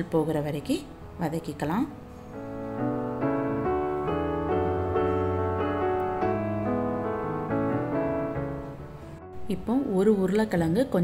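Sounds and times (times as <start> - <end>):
keyboard melody: 0.9 - 10.6.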